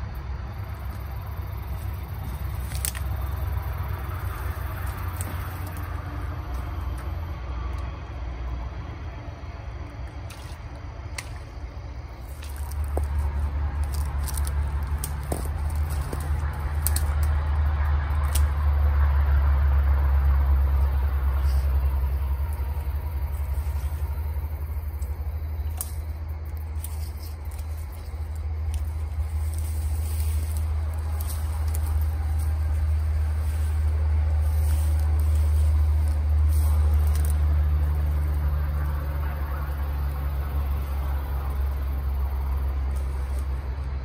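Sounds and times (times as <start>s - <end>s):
vehicle passing by: 0.0s - 44.0s.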